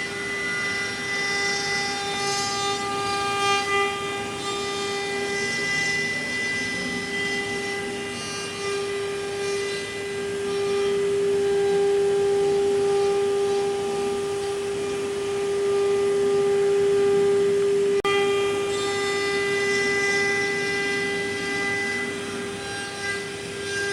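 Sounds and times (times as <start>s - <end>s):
router spindle high whine: 0.0s - 23.9s.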